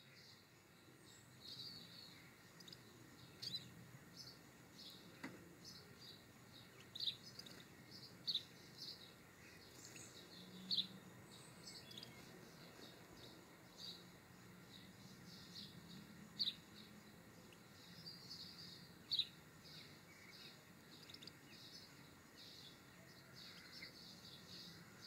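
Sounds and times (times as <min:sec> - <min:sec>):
finches chirping: 0:00.0 - 0:25.0.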